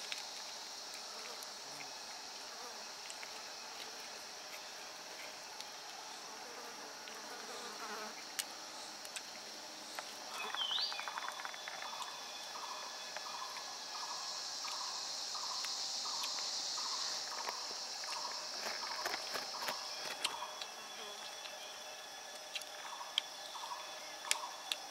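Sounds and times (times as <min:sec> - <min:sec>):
insects buzzing: 0:00.0 - 0:24.9.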